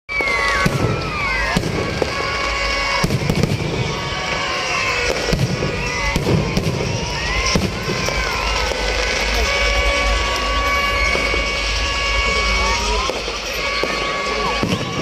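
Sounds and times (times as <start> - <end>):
firecrackers crackling: 0.1 - 15.0
firework bangs: 0.1 - 15.0.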